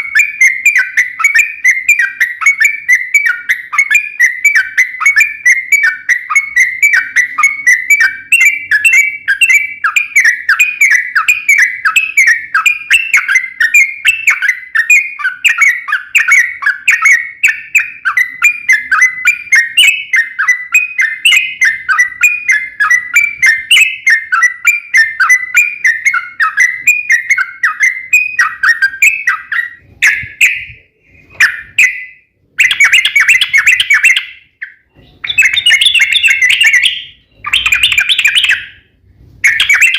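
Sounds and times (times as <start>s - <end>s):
bird singing rapid repeated notes: 0.0s - 39.9s.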